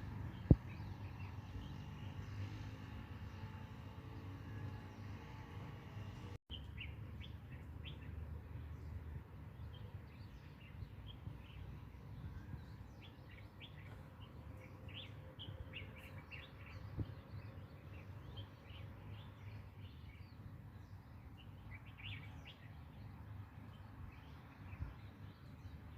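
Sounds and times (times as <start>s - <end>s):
small birds chirping: 0.0s - 5.5s, 6.1s - 25.9s.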